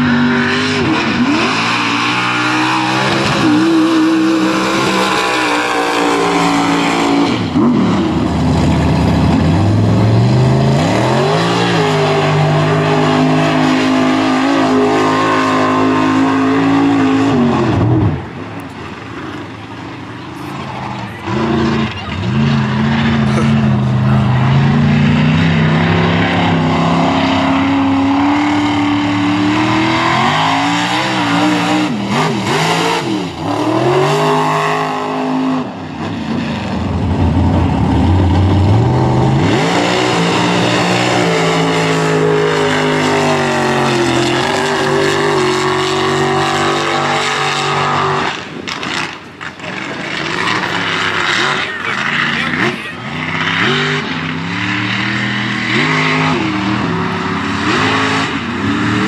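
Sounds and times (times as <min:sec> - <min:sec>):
truck engines revving high: 0:00.0 - 0:59.0.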